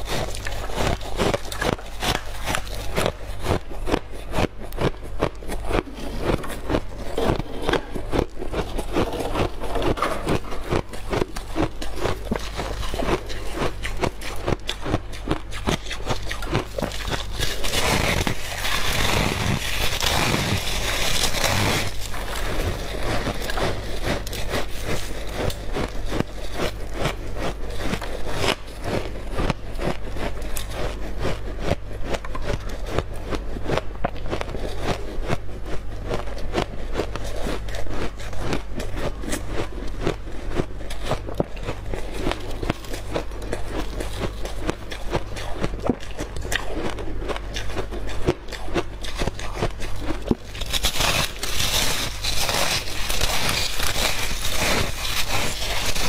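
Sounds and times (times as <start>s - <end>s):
ice crunching as it is chewed: 0.0s - 56.0s
steady low hum: 0.0s - 56.0s.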